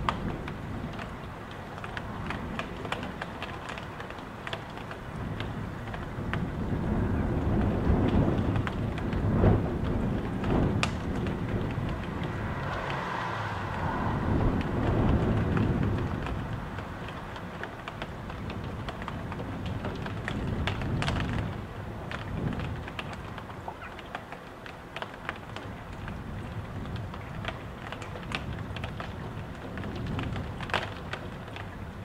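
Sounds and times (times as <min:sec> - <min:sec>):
gusting wind rumble: 0:00.0 - 0:32.0
raindrops ticking: 0:00.0 - 0:32.0.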